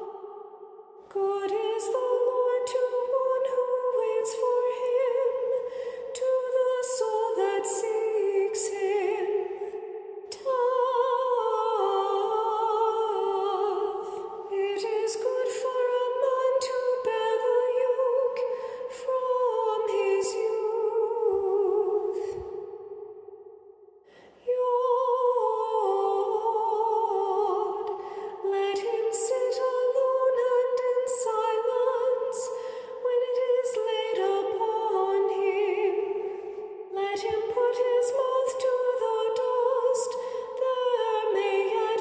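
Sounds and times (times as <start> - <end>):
woman singing chant unaccompanied: 1.1 - 22.6, 24.4 - 42.0.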